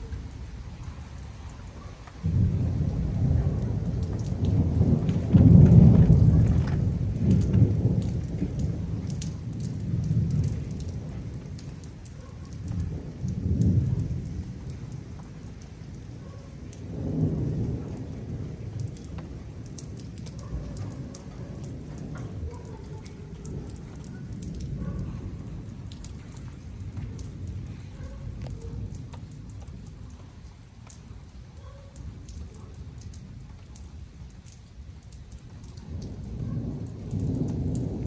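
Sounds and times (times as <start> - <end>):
thunder rumbling: 0.0 - 34.2, 34.8 - 38.0
rain falling: 0.0 - 38.0.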